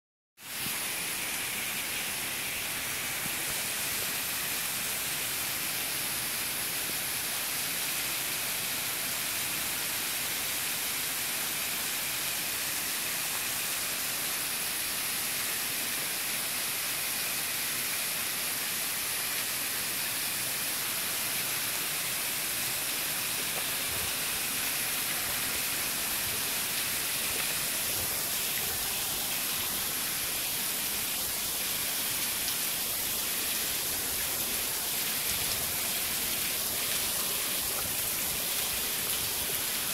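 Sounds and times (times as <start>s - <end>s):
waterfall splashing on stones: 0.5s - 39.9s.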